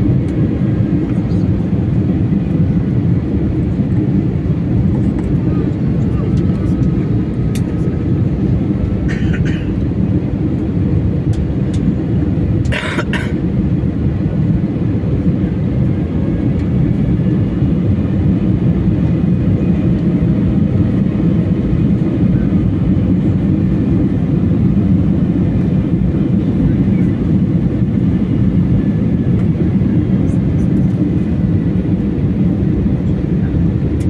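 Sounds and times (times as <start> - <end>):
jet engine roar in cabin: 0.0 - 34.0.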